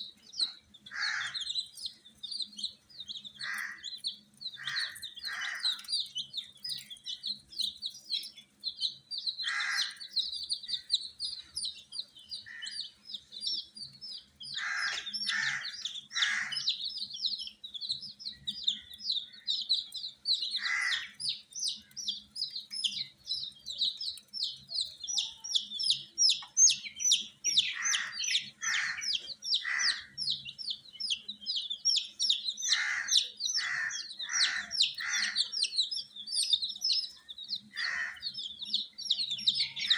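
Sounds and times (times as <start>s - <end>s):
chicks peeping: 0.0s - 39.9s
lower-pitched chick calls: 0.1s - 39.9s.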